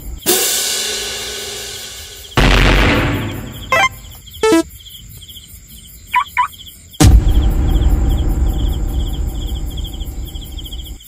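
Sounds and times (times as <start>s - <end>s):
crickets chirping: 0.0s - 0.6s, 1.2s - 11.0s.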